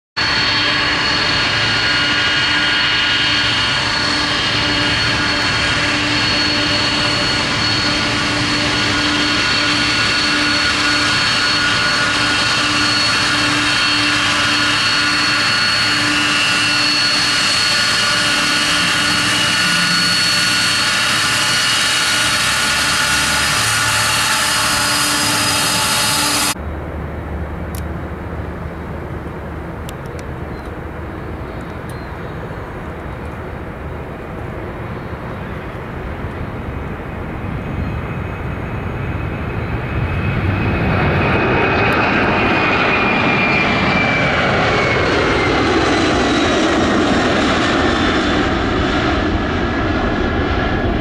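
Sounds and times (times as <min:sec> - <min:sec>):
high whining fan tones: 0:00.2 - 0:51.0
loud jet engine noise: 0:00.2 - 0:51.0.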